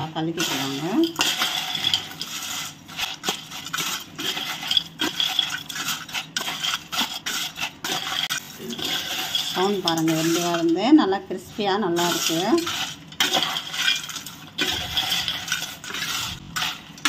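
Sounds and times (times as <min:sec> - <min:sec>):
spoon stirring crunchy snacks in bowl: 0:00.2 - 0:17.0.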